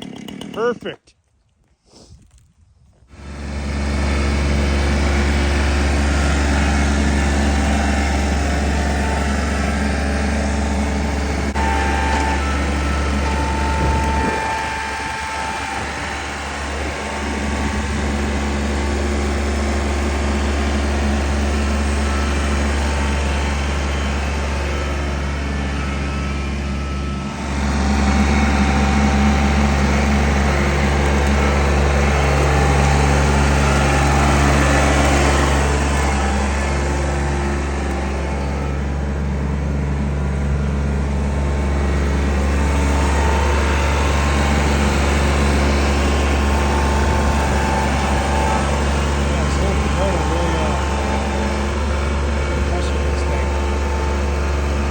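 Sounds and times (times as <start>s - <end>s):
engine running steadily: 3.1s - 54.9s.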